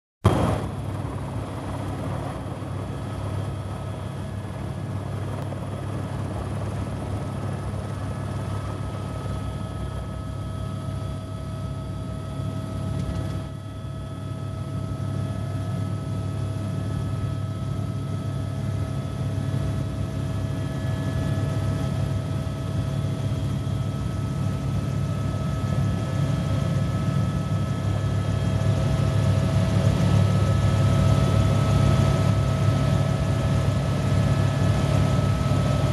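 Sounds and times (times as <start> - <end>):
turbine whine: 0.2 - 35.9
helicopter rotor chop: 0.3 - 35.9.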